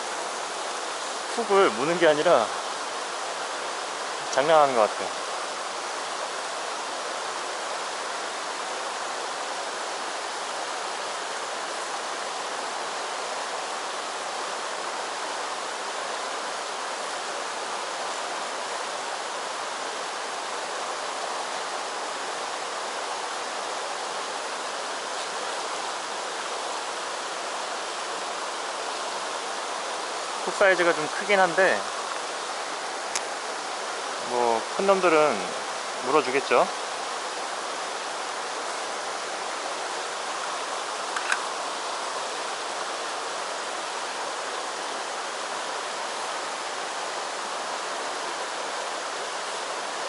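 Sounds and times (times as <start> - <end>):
stream flowing over pebbles: 0.0 - 50.0.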